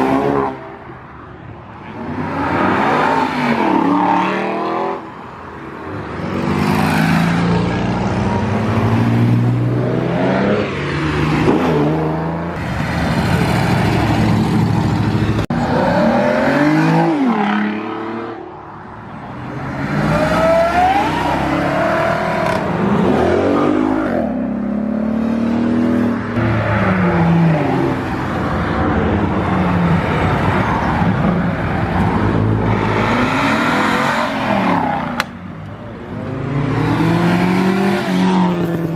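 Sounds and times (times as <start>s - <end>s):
cars accelerating hard: 1.9s - 5.2s, 5.9s - 18.5s, 19.3s - 35.3s, 35.9s - 38.9s.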